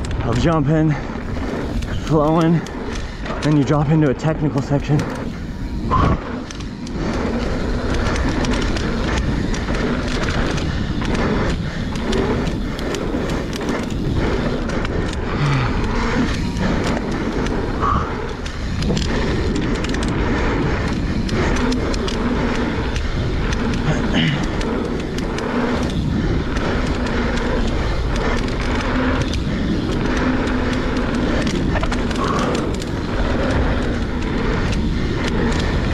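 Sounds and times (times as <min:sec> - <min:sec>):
bike rattling over bumps: 0:00.0 - 0:35.9
bike tyres rolling on dirt: 0:00.0 - 0:35.9.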